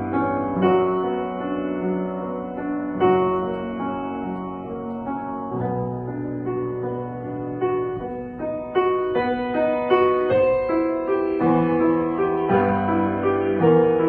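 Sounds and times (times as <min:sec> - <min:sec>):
solo piano playing: 0:00.0 - 0:14.0.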